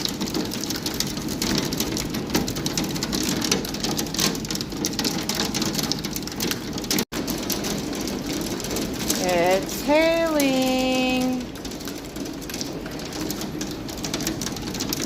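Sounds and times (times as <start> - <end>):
heavy rain with hail: 0.0 - 15.0.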